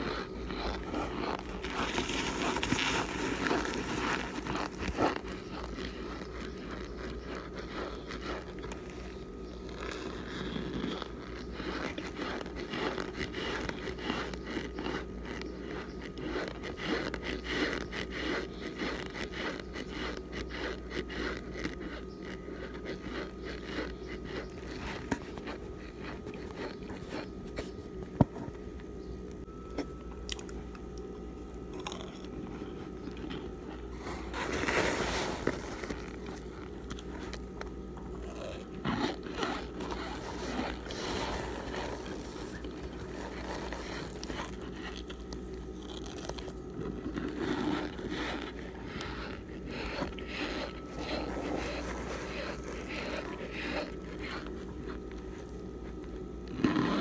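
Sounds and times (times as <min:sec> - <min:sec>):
fingers rummaging through chunks: 0:00.0 - 0:28.6, 0:31.6 - 0:57.0
crunching and chewing: 0:00.0 - 0:57.0.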